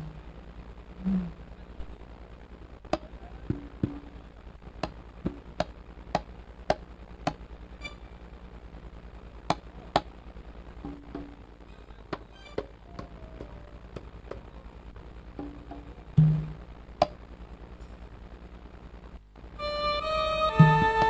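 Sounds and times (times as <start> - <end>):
faint sound system hum: 0.0 - 21.0.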